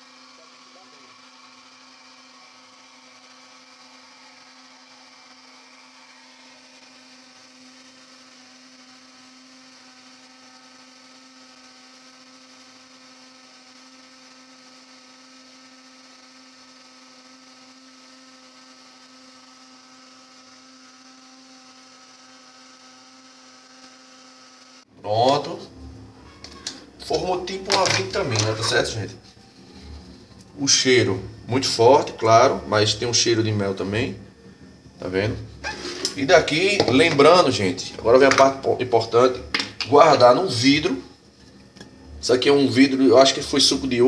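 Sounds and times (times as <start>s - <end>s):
electric blender running: 0.0s - 44.0s.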